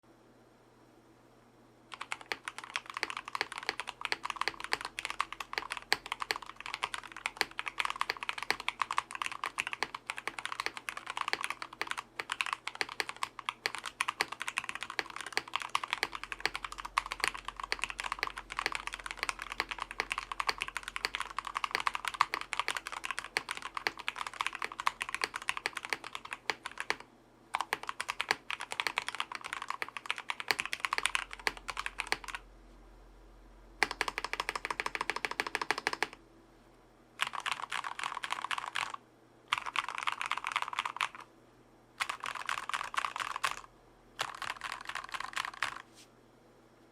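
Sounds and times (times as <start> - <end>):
mechanical keyboard typing: 1.9 - 32.4, 33.8 - 36.2, 37.2 - 41.3, 42.0 - 45.8.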